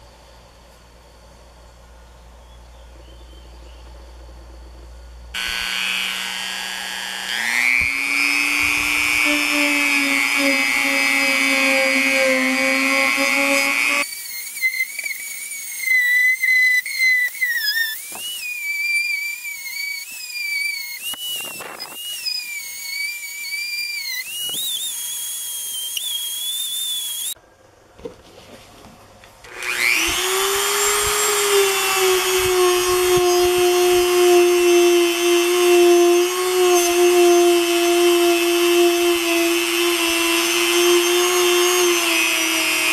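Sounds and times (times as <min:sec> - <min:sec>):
rotary tool whine: 0:04.2 - 0:27.4, 0:29.4 - 0:42.9.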